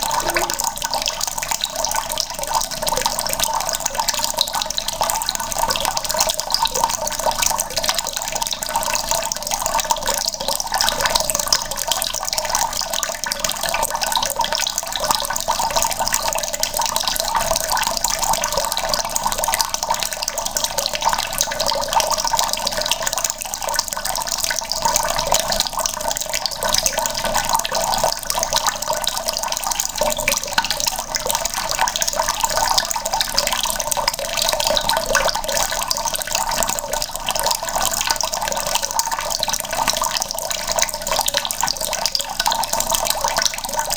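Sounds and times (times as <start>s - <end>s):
tap water splashing into bucket: 0.0s - 43.9s.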